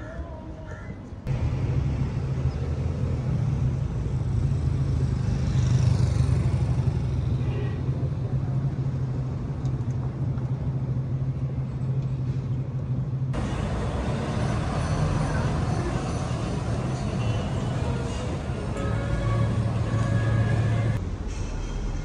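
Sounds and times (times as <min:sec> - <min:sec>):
street traffic engine rumble: 0:00.0 - 0:22.0.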